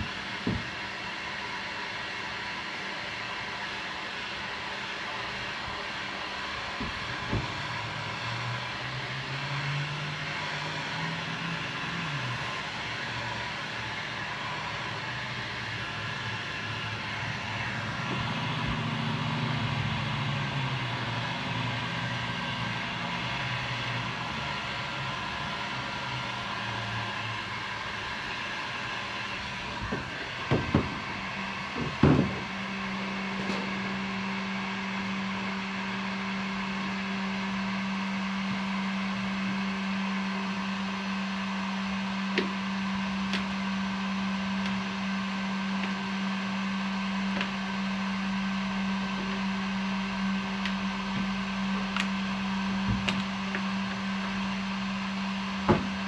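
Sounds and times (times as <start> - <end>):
heat gun motor hum and rushing air: 0.0 - 56.0.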